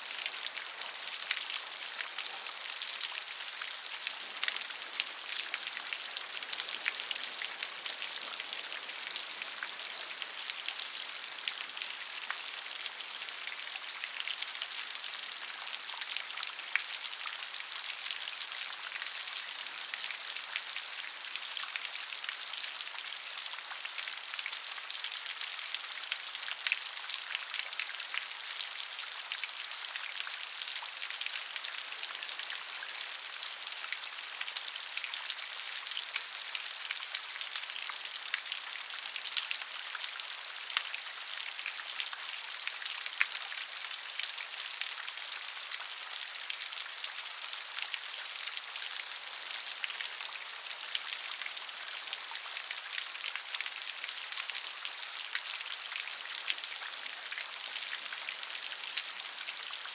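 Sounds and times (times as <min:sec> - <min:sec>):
rain drops ticking on a surface: 0:00.0 - 0:59.9.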